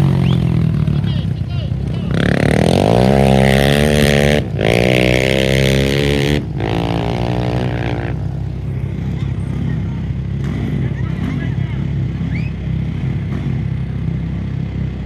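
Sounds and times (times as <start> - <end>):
racing engine passing at high revs: 0.0 - 14.1.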